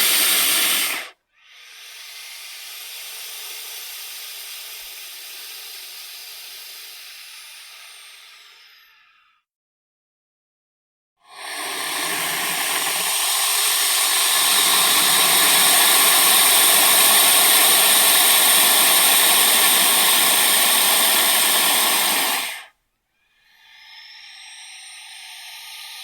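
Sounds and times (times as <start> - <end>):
snake hissing: 0.0 - 9.3, 11.2 - 22.7, 23.4 - 26.0.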